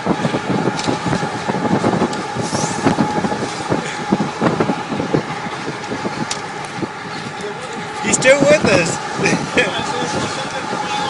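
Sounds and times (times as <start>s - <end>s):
train running on track: 0.0s - 11.0s.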